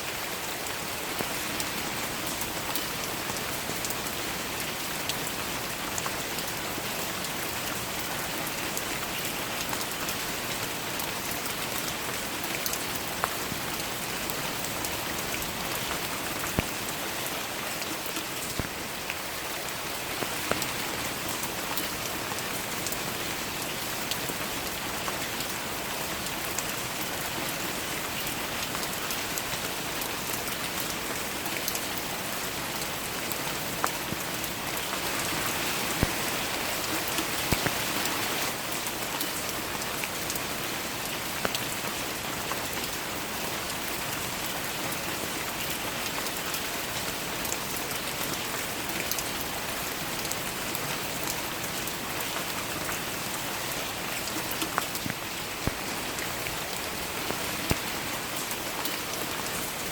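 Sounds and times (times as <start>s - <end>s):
raindrops hitting close by: 0.0s - 59.9s
steady rain hiss: 0.0s - 59.9s.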